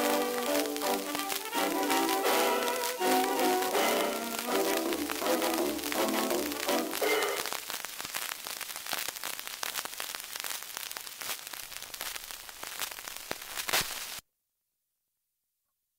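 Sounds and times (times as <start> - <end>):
record crackles and pops: 0.0 - 14.2
record surface hiss: 0.0 - 14.2.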